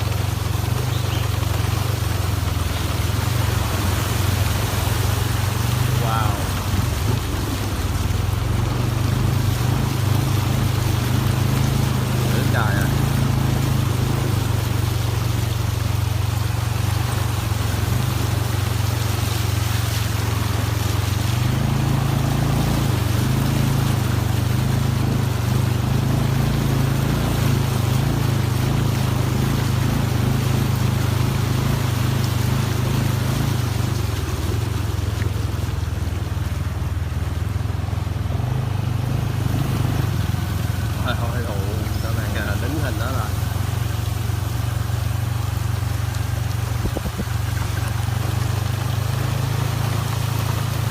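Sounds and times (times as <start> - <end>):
vehicle engine droning: 0.0 - 50.9.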